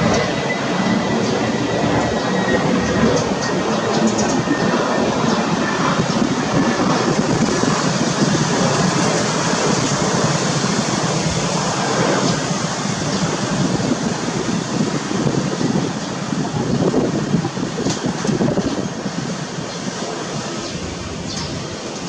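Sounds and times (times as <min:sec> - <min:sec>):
jet engines at taxi power: 0:00.0 - 0:22.0.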